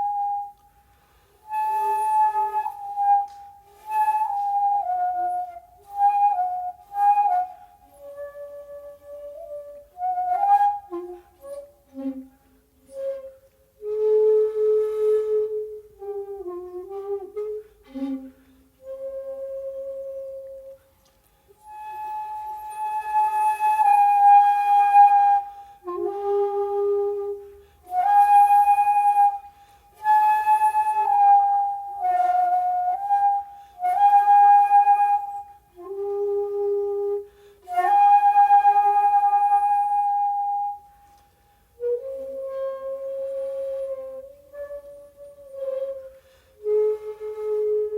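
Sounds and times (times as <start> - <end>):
breathy bamboo flute: 0.0 - 47.9.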